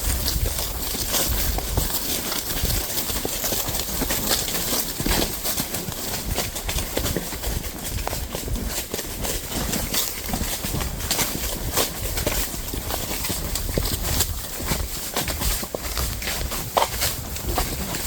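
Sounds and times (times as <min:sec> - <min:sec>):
horse hooves clip-clopping: 0:00.0 - 0:18.0.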